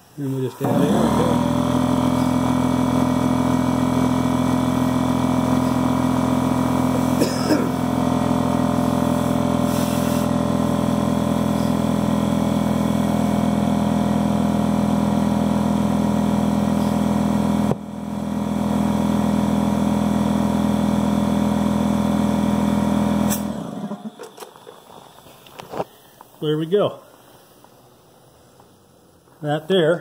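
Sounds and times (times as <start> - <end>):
air compressor motor hum: 0.0 - 30.0.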